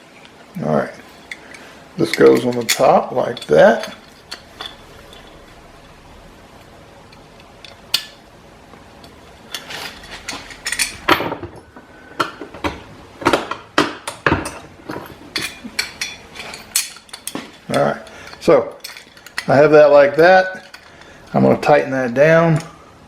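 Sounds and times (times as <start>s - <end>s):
metal hardware clinking: 0.9s - 8.3s, 8.9s - 22.8s.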